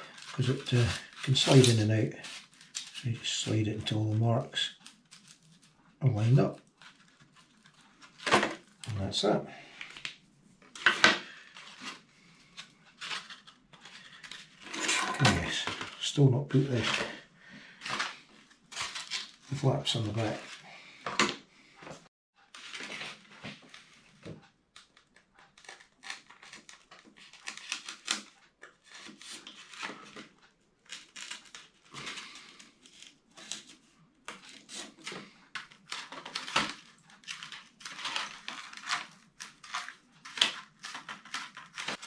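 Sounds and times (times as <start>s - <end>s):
scratching and rustling foam board: 0.0s - 21.1s, 21.8s - 42.0s.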